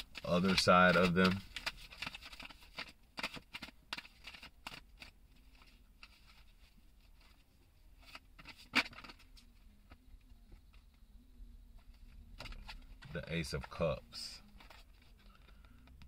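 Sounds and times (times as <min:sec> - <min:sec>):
cards clicking and rustling: 0:00.0 - 0:07.4, 0:08.0 - 0:10.0, 0:11.8 - 0:16.0.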